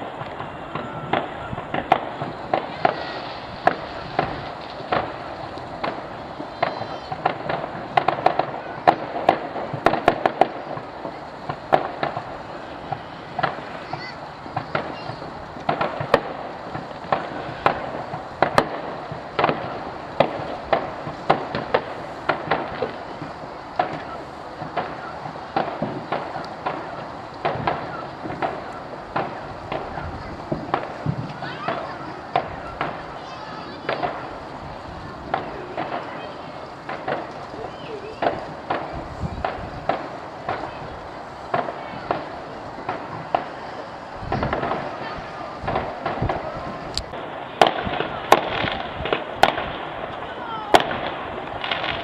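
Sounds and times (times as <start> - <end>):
continuous background hiss: 0.0 - 52.0
fireworks bangs and cracks: 0.0 - 52.0.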